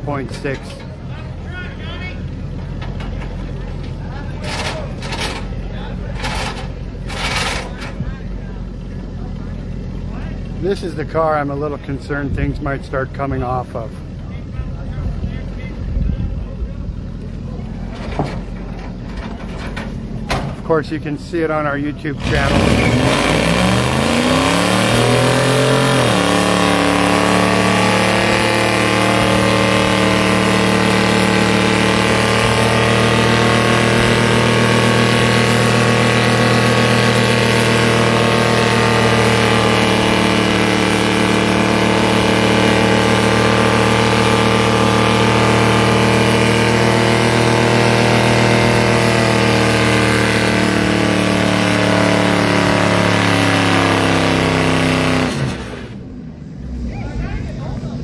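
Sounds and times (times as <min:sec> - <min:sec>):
car engine revving at high rpm: 0:01.5 - 0:14.6, 0:16.8 - 0:58.0.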